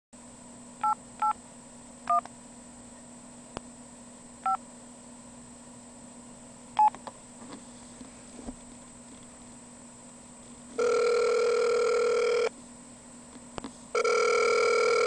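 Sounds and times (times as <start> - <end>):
low hum on phone line: 0.2 - 15.0.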